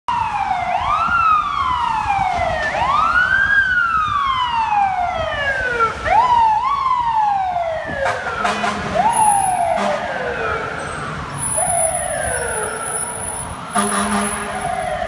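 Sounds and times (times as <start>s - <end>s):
low traffic rumble: 0.1s - 15.0s
siren wailing: 0.1s - 15.0s.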